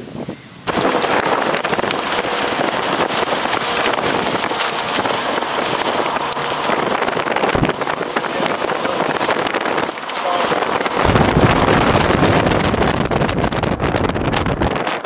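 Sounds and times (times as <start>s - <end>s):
heavy rain beating down: 0.6s - 15.0s.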